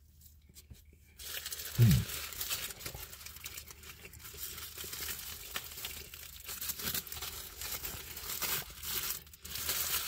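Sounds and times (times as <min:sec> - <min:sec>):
paper packaging crinkling: 0:00.7 - 0:10.0.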